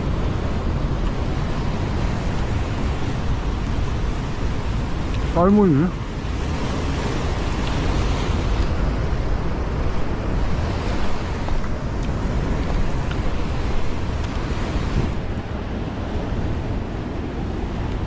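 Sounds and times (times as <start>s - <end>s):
heavy surf on rocky shore: 0.0s - 18.0s
wind rumbling on microphone: 0.0s - 18.0s.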